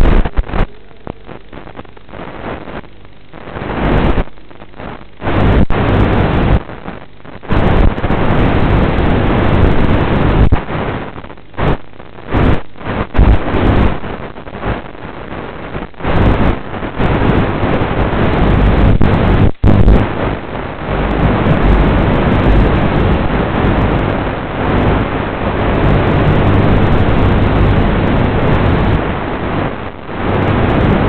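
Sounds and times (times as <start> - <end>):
radio hiss: 0.0 - 31.0.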